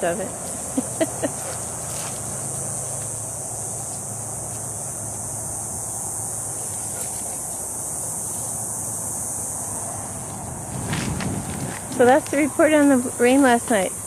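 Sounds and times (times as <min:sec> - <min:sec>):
insects buzzing: 0:00.0 - 0:14.0
soft outdoor background: 0:00.0 - 0:14.0.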